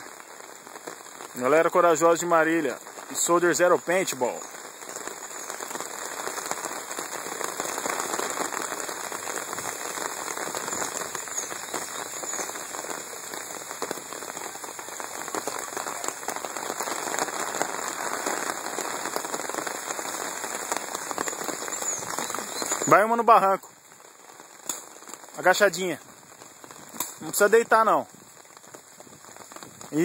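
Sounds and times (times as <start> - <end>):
light rain pattering: 0.0 - 30.0.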